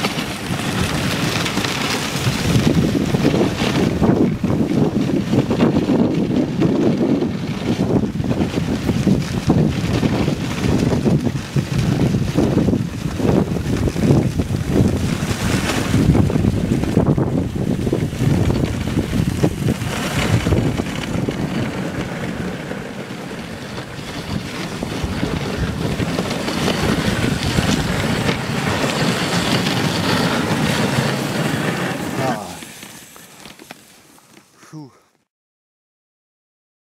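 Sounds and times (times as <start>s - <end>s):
wind rumbling over microphone: 0.0s - 32.9s.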